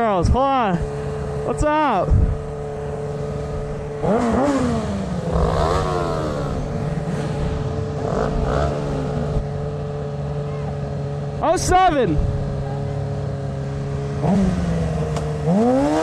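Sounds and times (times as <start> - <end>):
motorcycle engines idling: 0.0 - 16.0
motorcycle engines revving: 0.0 - 16.0.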